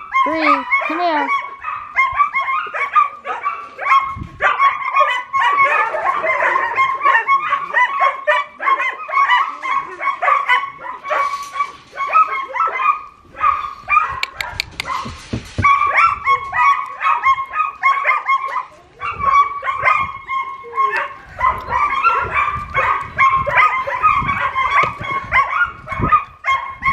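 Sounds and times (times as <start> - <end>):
dog barking and yipping: 0.0 - 26.9.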